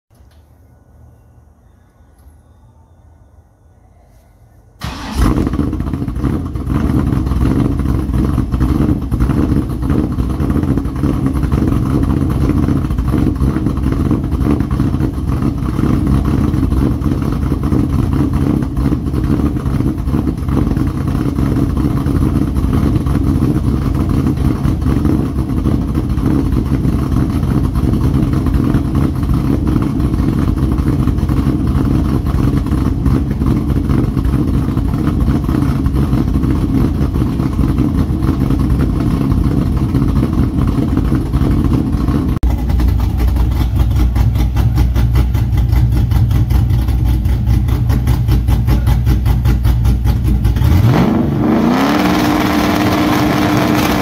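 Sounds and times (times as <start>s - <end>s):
car engine starting and idling: 4.7s - 54.0s.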